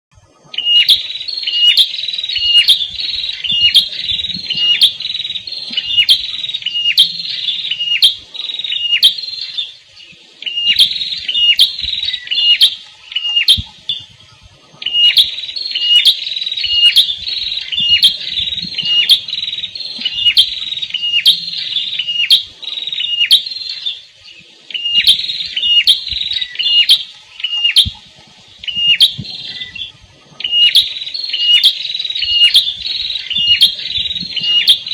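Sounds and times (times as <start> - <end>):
songbird sharp high chirps: 0.5 - 34.9.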